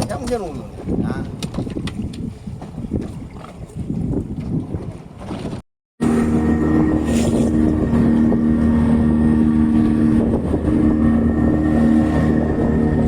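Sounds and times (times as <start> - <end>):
rough wind: 0.0 - 13.0
water noise: 0.0 - 13.0
boat engine running: 1.7 - 13.0.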